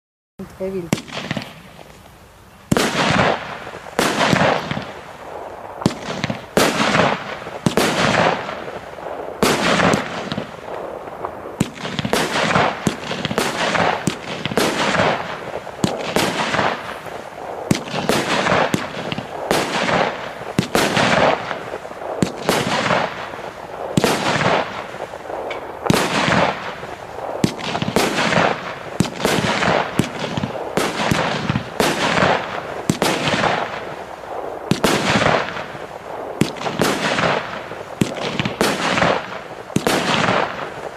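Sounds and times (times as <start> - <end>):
firework shots with hissing trails: 0.4 - 40.9.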